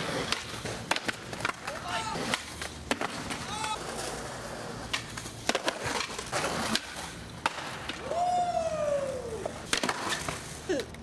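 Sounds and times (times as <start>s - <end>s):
skateboard clacking on ground: 0.0s - 8.2s, 9.4s - 11.0s
skateboard wheels rolling on pavement: 0.0s - 11.0s.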